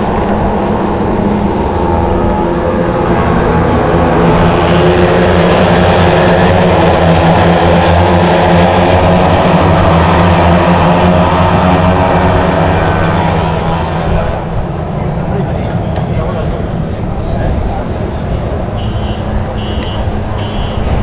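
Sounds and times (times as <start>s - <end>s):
racing motorcycle engines droning: 0.0s - 21.0s.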